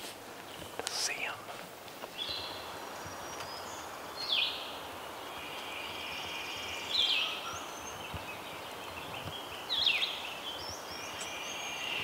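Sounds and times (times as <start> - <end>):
steady outdoor hiss: 0.0 - 12.0
small birds singing: 0.3 - 12.0.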